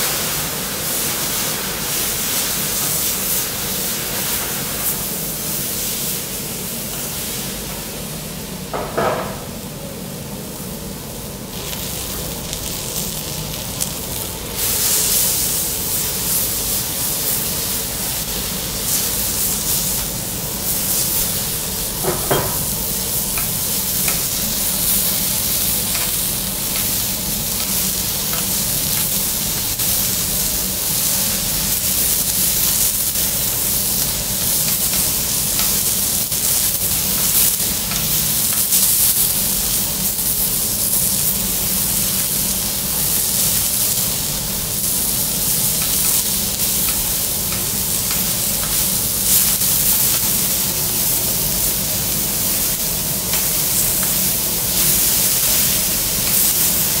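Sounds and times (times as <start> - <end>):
food sizzling on griddle: 0.0 - 57.0.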